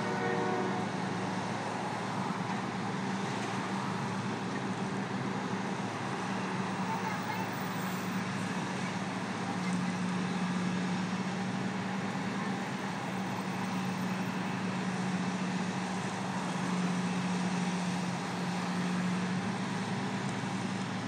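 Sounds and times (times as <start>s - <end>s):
steady engine hum: 0.0s - 21.0s
street traffic noise: 0.0s - 21.0s.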